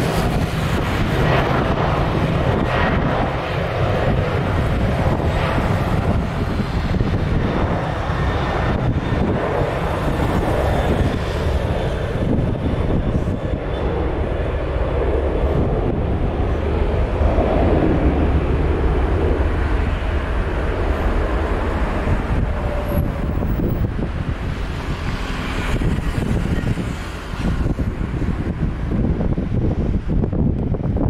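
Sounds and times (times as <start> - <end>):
jet engines rumbling: 0.0 - 31.0
wind buffeting microphone: 0.0 - 31.0.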